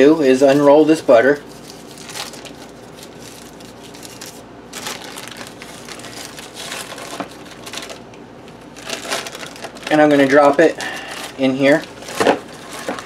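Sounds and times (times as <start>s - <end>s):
plastic wrap crinkling: 0.4s - 13.0s.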